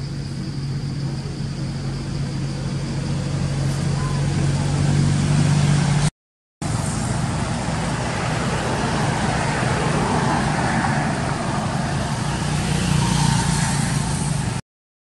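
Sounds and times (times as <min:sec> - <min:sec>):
traffic hiss: 0:00.0 - 0:06.0, 0:06.6 - 0:14.6
low engine hum: 0:00.0 - 0:14.6.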